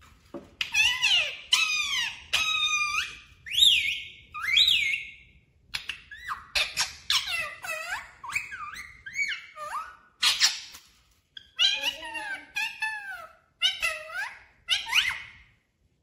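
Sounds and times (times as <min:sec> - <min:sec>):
parakeet chattering: 0:00.6 - 0:10.8, 0:11.4 - 0:15.3.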